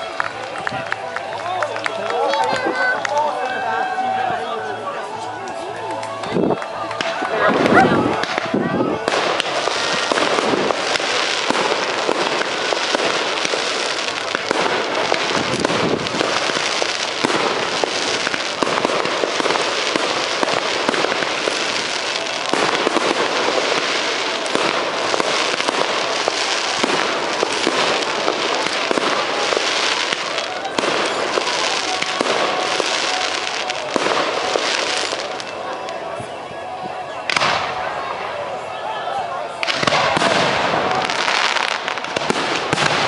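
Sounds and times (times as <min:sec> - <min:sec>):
fireworks crackling and popping: 0:00.0 - 0:38.6, 0:39.5 - 0:43.0.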